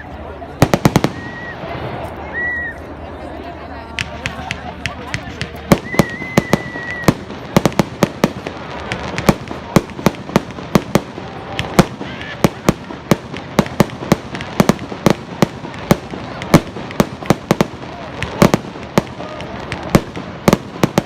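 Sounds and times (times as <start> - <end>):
background noise haze: 0.0 - 21.0
fireworks bangs: 0.2 - 2.8, 3.9 - 21.0.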